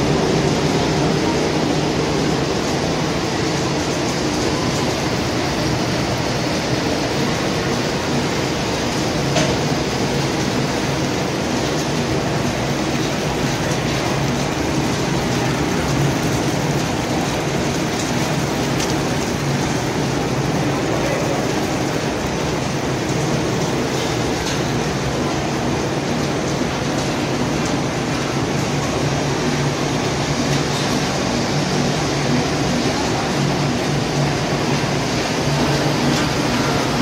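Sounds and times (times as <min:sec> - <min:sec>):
production line machinery: 0:00.0 - 0:37.0.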